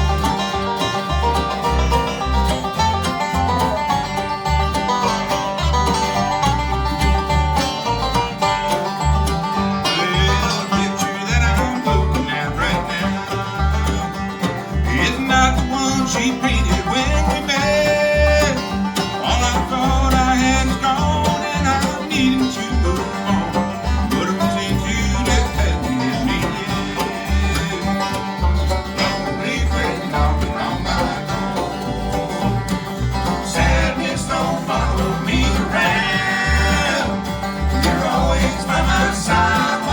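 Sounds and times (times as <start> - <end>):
banjo: 0.0 - 39.9
bass keeping a steady beat: 0.0 - 39.9
dobro: 0.0 - 39.9
guitar: 0.0 - 39.9
mandolin: 0.0 - 39.9.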